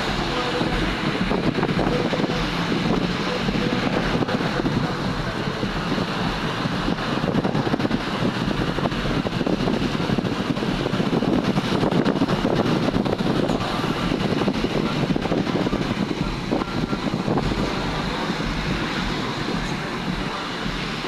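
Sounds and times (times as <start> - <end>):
road traffic rumble: 0.0 - 21.0
rushing hiss of traffic: 0.0 - 21.0.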